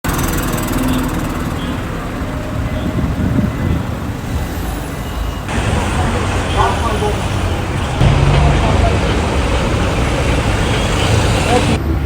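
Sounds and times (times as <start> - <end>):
passing vehicles road noise: 0.0 - 12.0.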